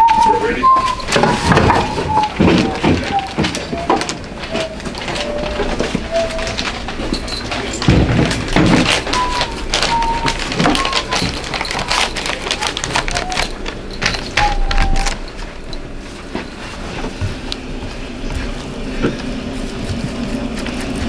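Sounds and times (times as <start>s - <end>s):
items clattering on worktables: 0.0s - 21.0s.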